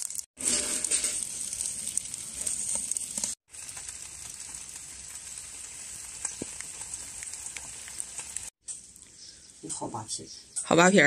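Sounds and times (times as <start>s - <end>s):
steam hissing and sizzling: 0.0s - 10.2s.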